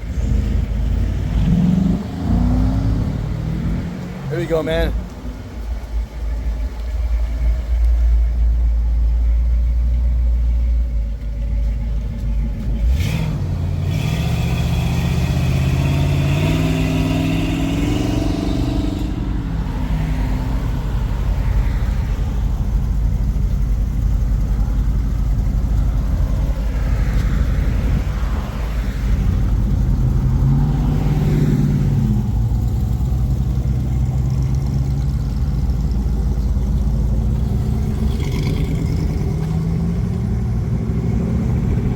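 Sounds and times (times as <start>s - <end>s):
car accelerating away: 0.0s - 8.6s, 11.3s - 41.9s
low engine rumble: 0.0s - 41.9s.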